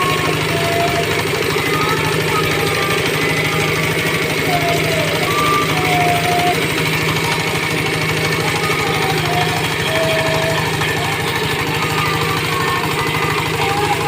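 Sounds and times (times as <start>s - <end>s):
pellet mill pulsing drone: 0.0s - 14.0s.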